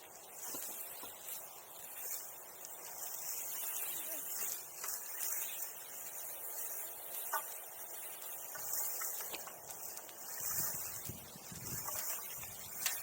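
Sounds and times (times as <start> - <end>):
bonfire crackling: 0.0 - 13.0
insects chirring: 0.1 - 13.0.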